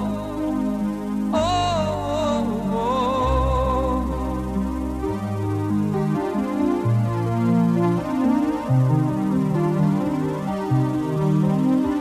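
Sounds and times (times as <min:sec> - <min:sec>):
synthesizer chords with bass: 0:00.0 - 0:12.0.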